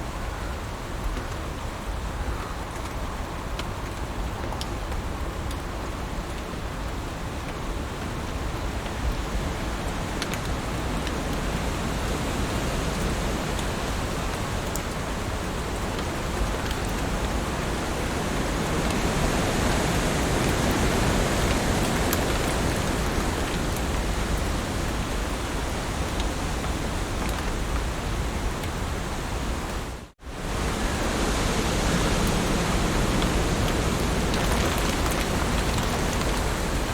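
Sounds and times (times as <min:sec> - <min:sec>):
heavy rain on leaves: 0:00.0 - 0:36.9.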